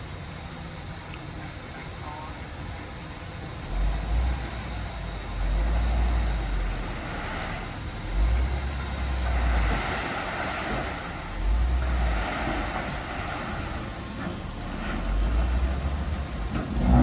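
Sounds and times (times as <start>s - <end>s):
heavy diesel machinery rumbling: 0.0s - 17.0s.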